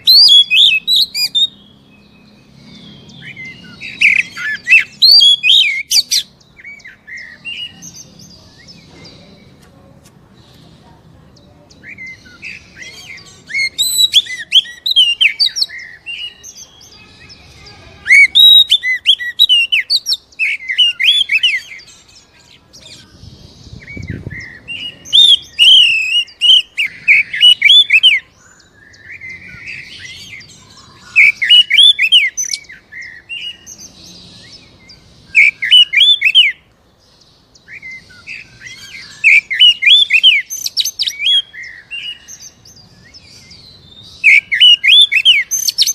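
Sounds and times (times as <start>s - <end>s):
magpie-robin singing: 0.0s - 45.9s.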